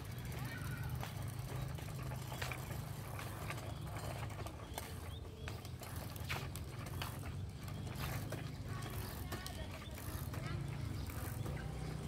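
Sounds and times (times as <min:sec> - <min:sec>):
bicycle clicks and rattles: 0:00.0 - 0:12.0
bicycle rolling on pavement: 0:00.0 - 0:12.0.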